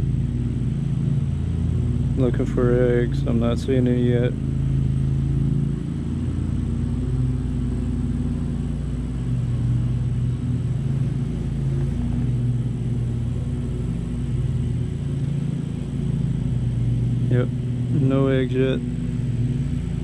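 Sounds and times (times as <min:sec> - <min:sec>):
honeybees humming: 0:00.0 - 0:20.0.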